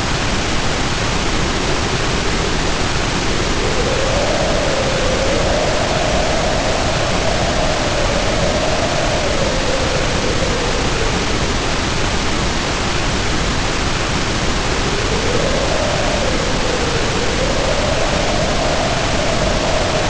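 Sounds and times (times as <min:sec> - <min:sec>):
heavy rain pouring: 0:00.0 - 0:20.0
wind howling: 0:00.0 - 0:20.0.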